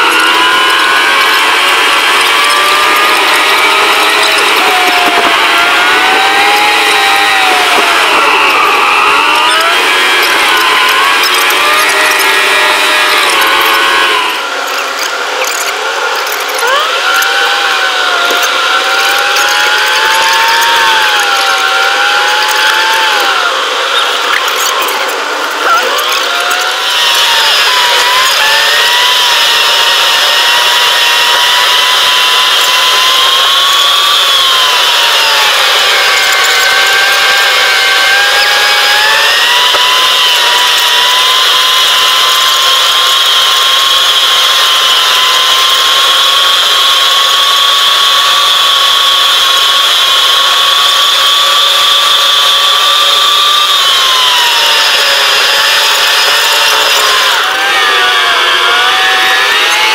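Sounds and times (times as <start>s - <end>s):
car engine high whine: 0.0s - 59.9s.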